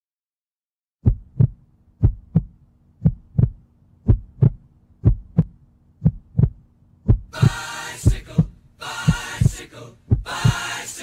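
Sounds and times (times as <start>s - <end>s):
heartbeat thumps: 1.0s - 10.7s.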